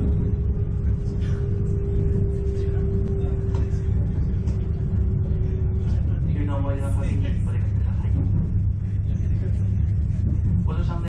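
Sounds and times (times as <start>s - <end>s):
steady hum: 0.0s - 11.0s
train wheels rumbling: 0.0s - 11.0s.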